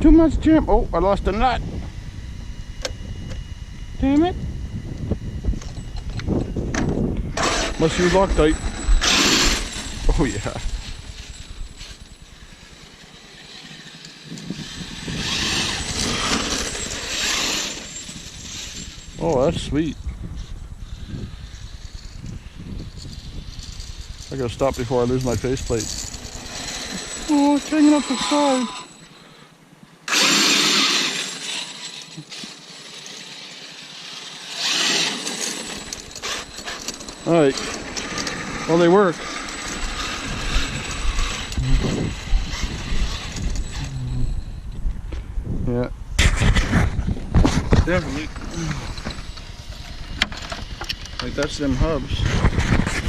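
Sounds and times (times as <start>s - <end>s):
rc truck motor and tyres hissing: 0.1s - 44.7s, 46.2s - 53.0s.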